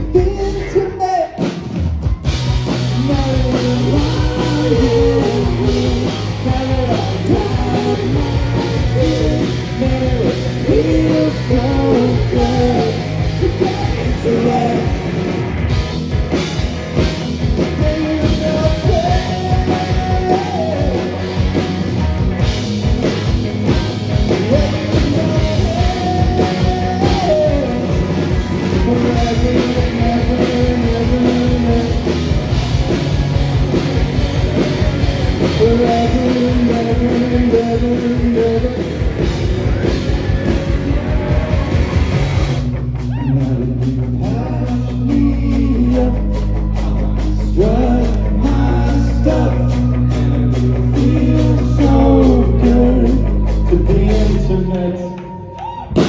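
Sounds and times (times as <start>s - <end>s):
drum kit steady beat: 0.0s - 54.7s
rock band playing: 0.0s - 56.0s.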